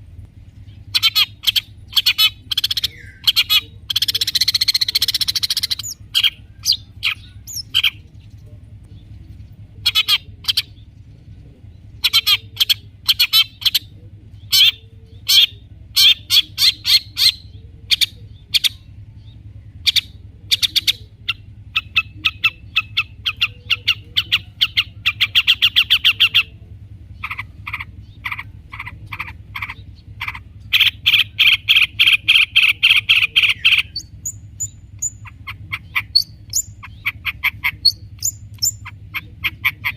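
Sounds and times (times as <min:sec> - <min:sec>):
shrike chattering and trilling: 0:00.0 - 0:39.9.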